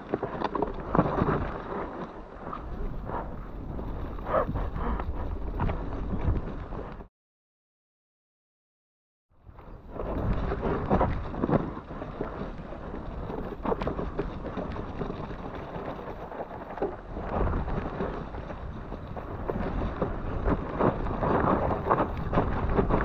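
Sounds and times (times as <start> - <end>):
wind buffeting microphone: 0.8 - 7.1, 9.4 - 23.0.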